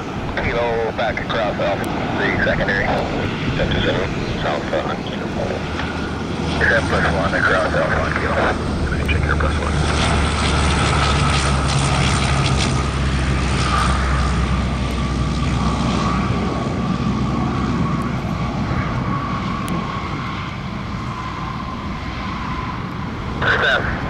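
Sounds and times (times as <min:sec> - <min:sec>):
turboprop engines whining: 0:00.0 - 0:24.0.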